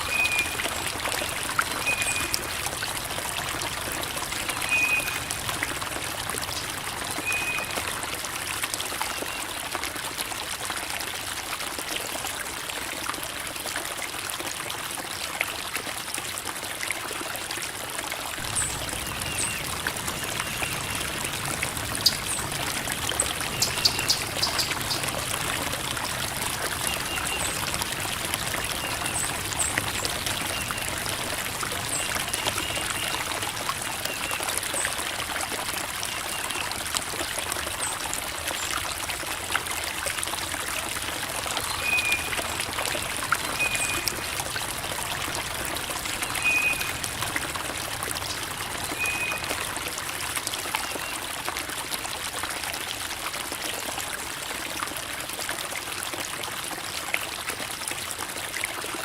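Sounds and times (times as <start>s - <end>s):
creek water babbling: 0.0s - 59.0s.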